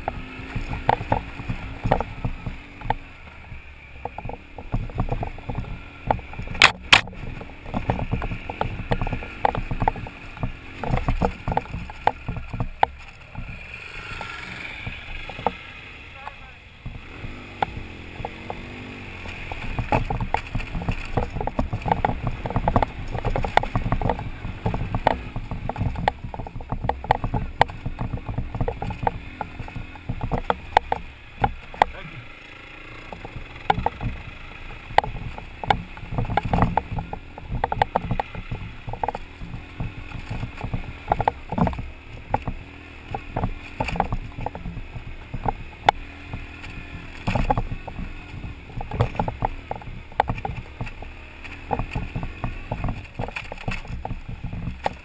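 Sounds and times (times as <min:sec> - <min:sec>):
knocks and rattles over ruts: 0:00.0 - 0:55.0
motorcycle engine running: 0:00.0 - 0:55.0.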